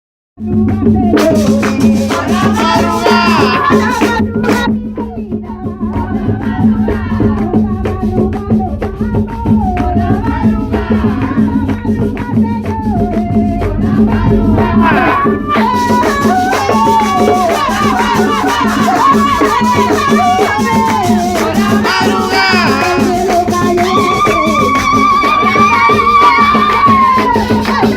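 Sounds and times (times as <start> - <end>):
shaken rattling percussion: 0.6 - 27.9.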